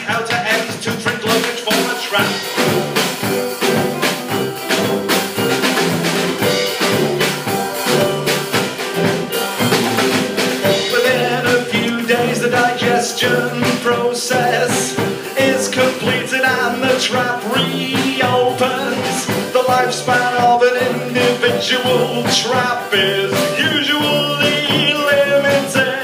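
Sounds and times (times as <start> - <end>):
band playing live: 0.0 - 26.0
drum and percussion beat: 0.0 - 26.0.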